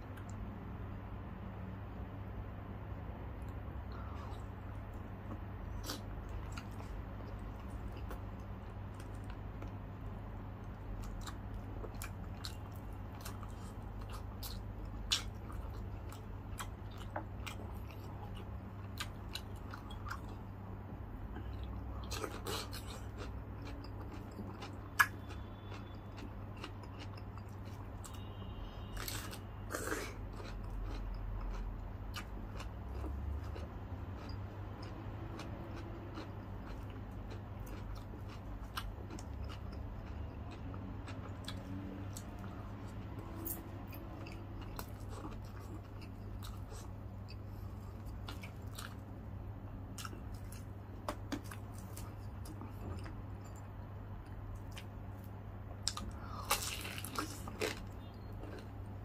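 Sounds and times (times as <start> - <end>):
steady low hum: 0.0 - 59.0
chewing and crunching crispy food: 3.4 - 59.0.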